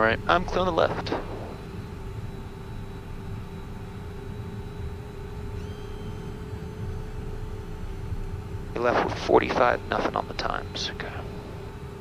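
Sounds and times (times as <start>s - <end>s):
faint high whine: 0.0s - 12.0s
jet cockpit hum: 0.0s - 12.0s.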